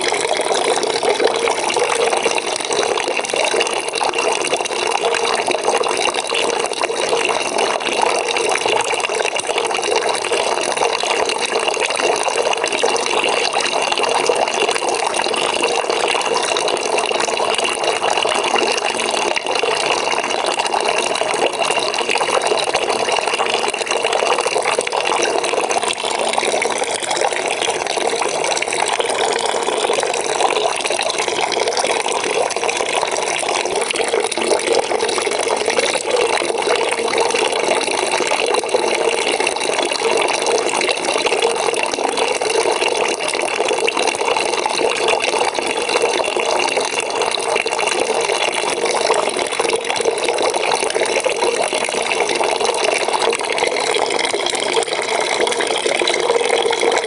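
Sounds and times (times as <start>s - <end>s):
water pouring into a bucket: 0.0s - 57.0s.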